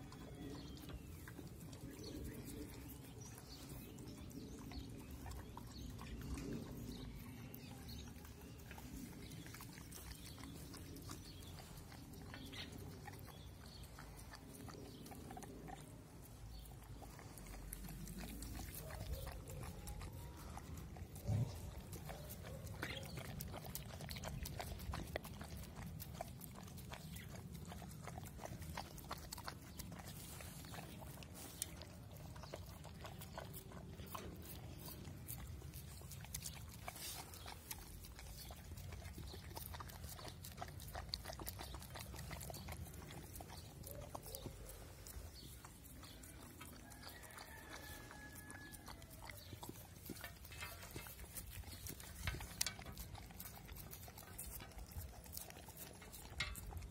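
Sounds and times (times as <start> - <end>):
puppies crunching kibble: 0.0 - 56.9
puppies lapping milk: 0.0 - 56.9.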